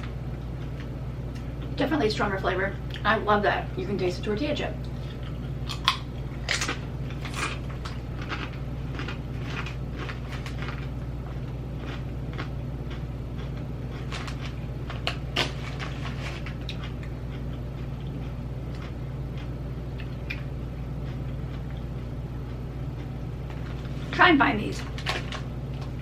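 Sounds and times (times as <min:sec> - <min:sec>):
steady low hum: 0:00.0 - 0:26.0
chips crunching: 0:05.0 - 0:26.0.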